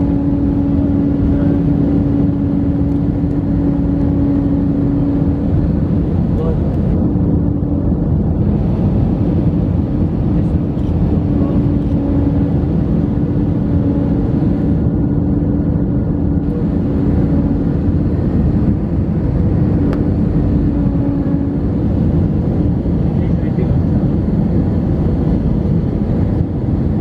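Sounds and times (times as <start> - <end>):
jet engines and airflow rushing: 0.0 - 27.0
steady droning tone: 0.0 - 27.0.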